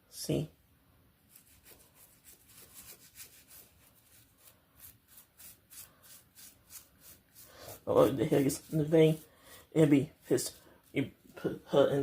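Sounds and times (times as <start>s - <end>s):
faint rubbing strokes: 1.2s - 12.0s.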